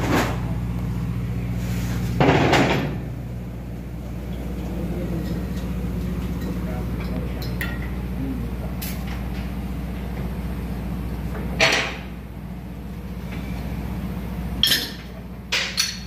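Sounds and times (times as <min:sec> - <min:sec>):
diesel machinery humming: 0:00.0 - 0:16.0.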